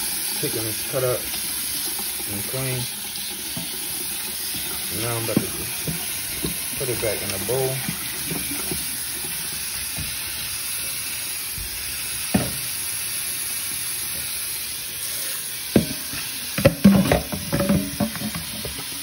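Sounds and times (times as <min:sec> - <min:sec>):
water running in a sink: 0:00.0 - 0:19.0.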